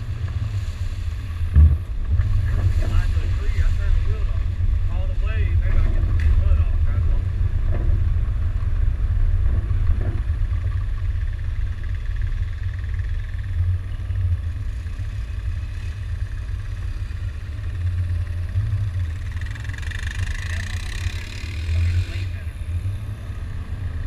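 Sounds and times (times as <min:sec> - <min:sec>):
truck engine driving slowly: 0:00.0 - 0:24.0.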